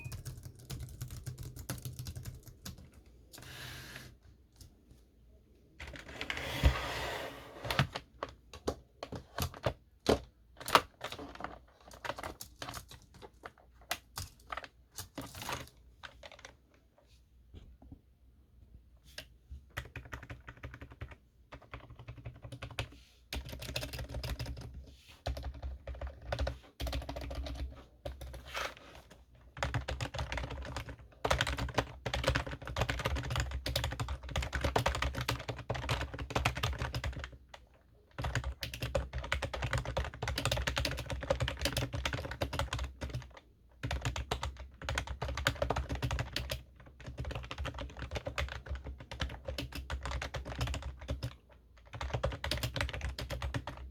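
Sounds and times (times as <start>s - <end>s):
computer keyboard typing: 0.0s - 3.4s, 7.8s - 16.6s, 19.7s - 53.9s.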